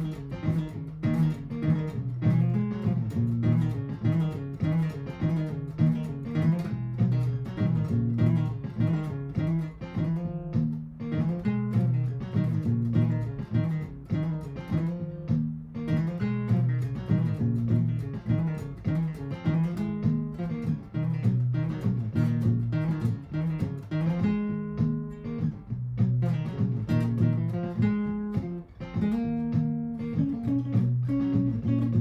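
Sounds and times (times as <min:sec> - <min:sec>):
acoustic guitar plucked lines: 0:00.0 - 0:32.0
looped guitar accompaniment: 0:00.0 - 0:32.0.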